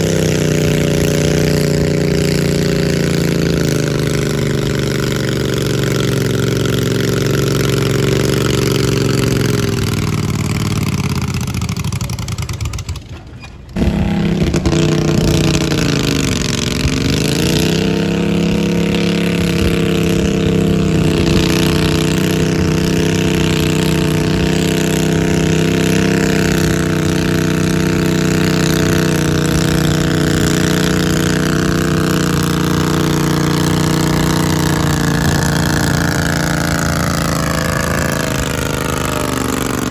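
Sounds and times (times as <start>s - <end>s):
tractor engine at high revs: 0.0s - 39.9s.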